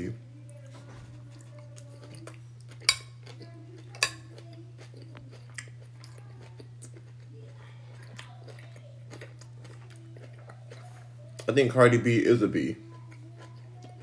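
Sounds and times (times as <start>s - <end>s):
person chewing food: 0.4s - 11.8s, 12.9s - 14.0s.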